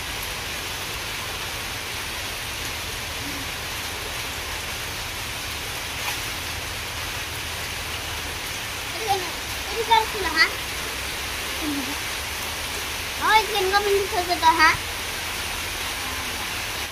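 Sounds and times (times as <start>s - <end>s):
rain splashing into standing water: 0.0s - 16.9s.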